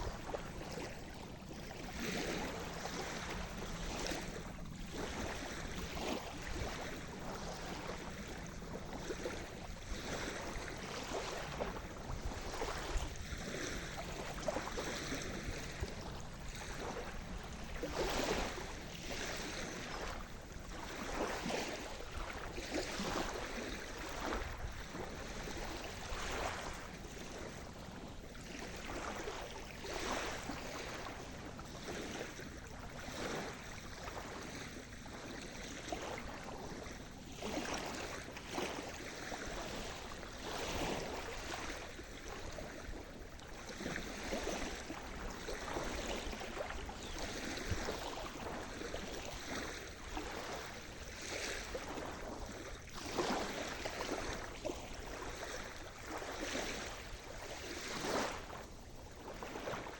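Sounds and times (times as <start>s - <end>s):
constant hiss of water: 0.0s - 59.9s
small waves breaking: 0.0s - 59.9s.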